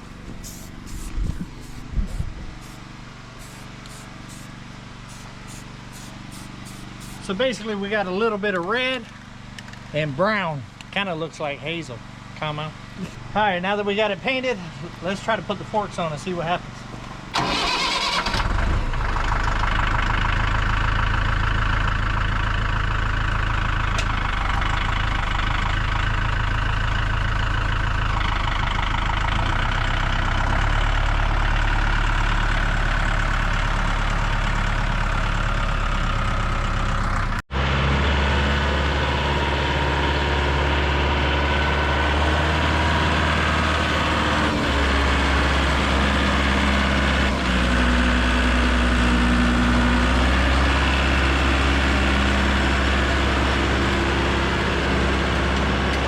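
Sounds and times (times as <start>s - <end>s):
tractor engine running: 0.0s - 10.0s, 12.0s - 56.0s.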